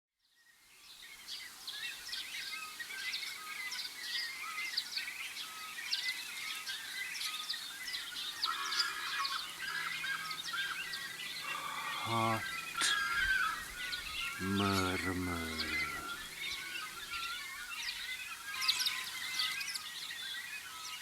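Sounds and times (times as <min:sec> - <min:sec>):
birds chirping and twittering: 0:00.2 - 0:21.0.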